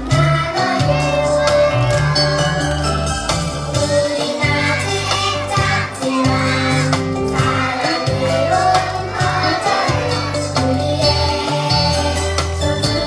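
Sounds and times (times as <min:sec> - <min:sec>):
children singing as a choir: 0:00.0 - 0:13.0
sustained bass line: 0:00.0 - 0:13.0.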